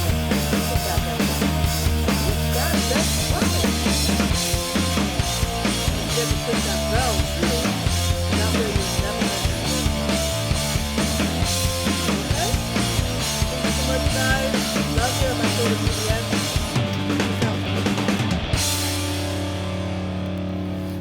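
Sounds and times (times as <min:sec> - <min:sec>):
rock music with fast drum beat: 0:00.0 - 0:21.0.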